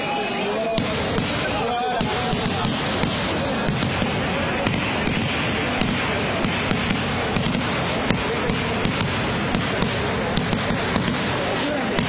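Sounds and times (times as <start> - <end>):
fireworks crackling: 0.0 - 12.0
loud firework cracks: 0.7 - 12.0.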